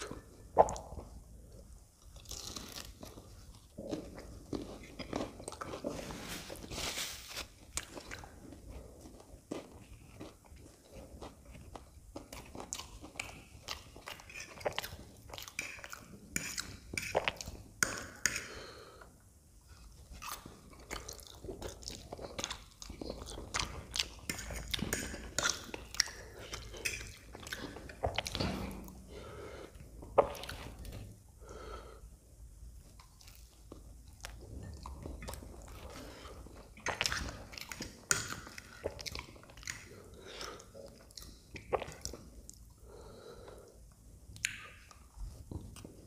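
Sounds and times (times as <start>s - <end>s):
chewing and crunching food: 0.0s - 31.6s, 32.7s - 46.0s.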